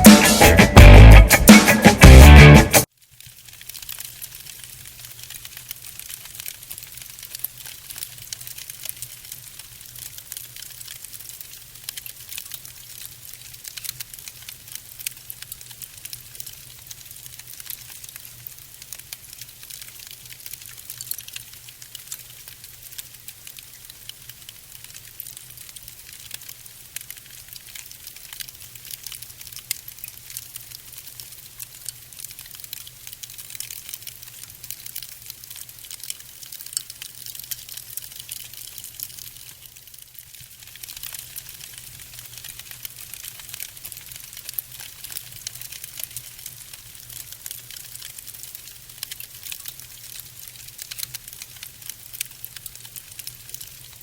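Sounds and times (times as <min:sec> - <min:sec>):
fire crackling: 0:00.0 - 0:54.0.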